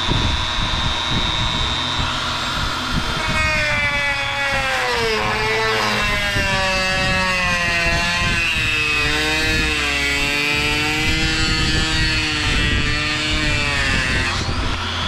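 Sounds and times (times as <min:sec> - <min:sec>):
die grinder cutting plastic: 0:00.9 - 0:15.0.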